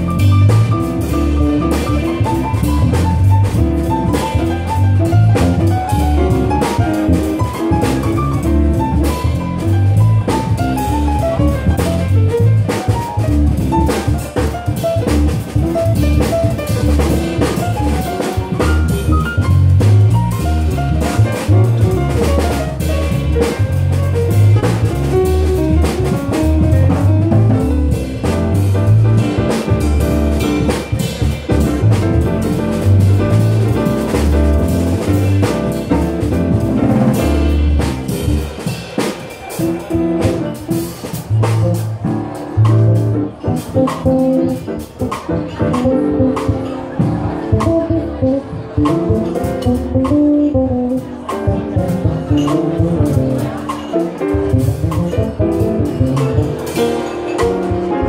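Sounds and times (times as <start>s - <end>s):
electric bass plucked notes: 0.0s - 38.7s, 39.6s - 58.0s
drum kit playing: 0.0s - 58.0s.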